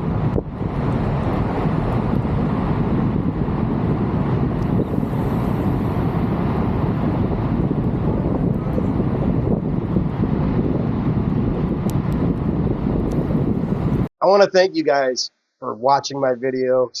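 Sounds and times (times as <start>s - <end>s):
wind buffeting microphone: 0.0s - 14.1s.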